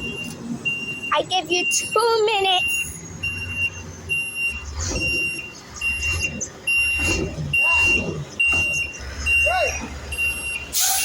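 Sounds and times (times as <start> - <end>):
diesel engine rumble: 0.0 - 11.0
reversing alarm beeping: 0.0 - 11.0.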